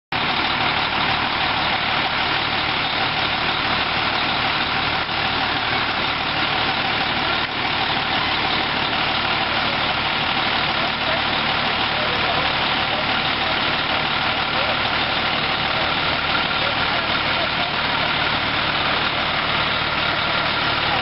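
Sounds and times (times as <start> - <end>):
fire truck engine running: 0.1 - 21.0.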